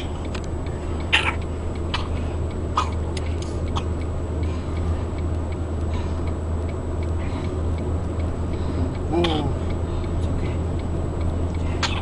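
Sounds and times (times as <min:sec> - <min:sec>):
low engine hum: 0:00.0 - 0:12.0
turn signal clicking: 0:00.0 - 0:12.0.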